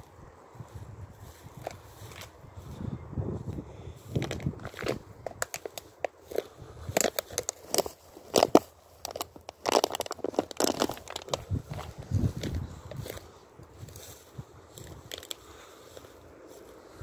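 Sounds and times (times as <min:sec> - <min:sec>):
footsteps crunching through dry grass: 0:00.0 - 0:17.0
vegetation rustling: 0:00.0 - 0:17.0.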